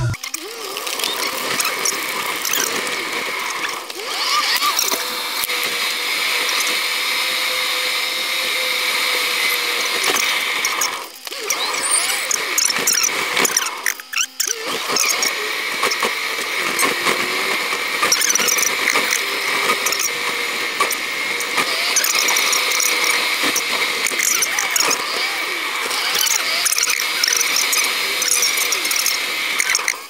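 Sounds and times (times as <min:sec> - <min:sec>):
car cabin high whir: 0:00.0 - 0:30.0.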